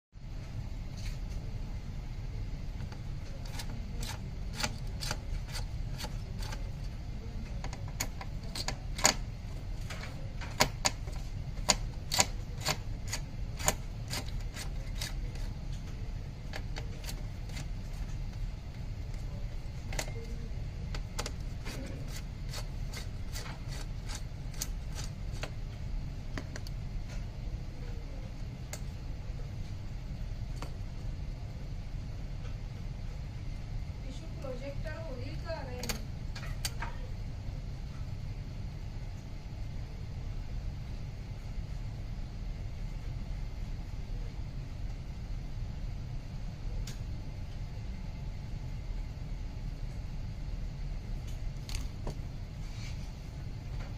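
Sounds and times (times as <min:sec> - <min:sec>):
steady low hum: 0:00.2 - 0:53.9.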